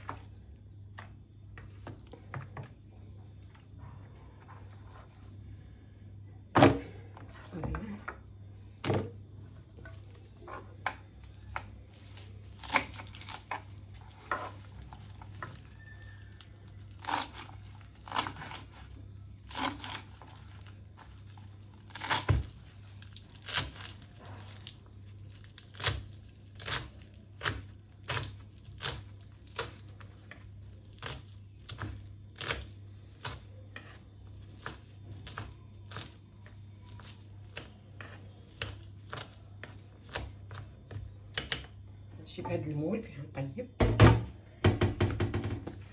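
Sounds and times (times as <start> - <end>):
steady low hum: 0.0 - 44.6.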